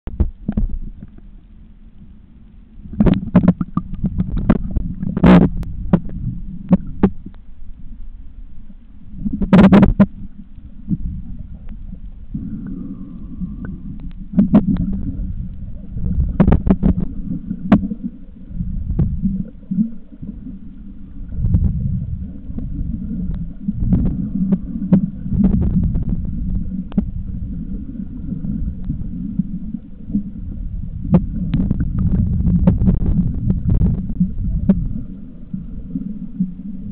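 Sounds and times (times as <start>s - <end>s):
underwater rumbling and sloshing: 0.1s - 36.9s.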